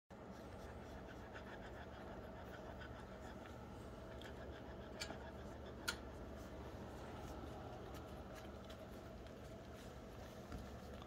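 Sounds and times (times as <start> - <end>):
low room hum: 0.1 - 11.0
puppies suckling: 0.1 - 11.0.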